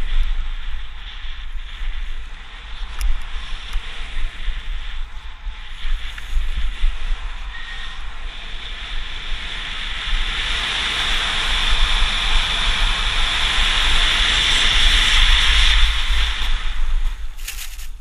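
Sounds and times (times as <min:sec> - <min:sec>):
low buffeting rumble: 0:00.0 - 0:18.0
skis hissing over snow: 0:00.0 - 0:18.0
wind rushing over microphone: 0:00.0 - 0:18.0.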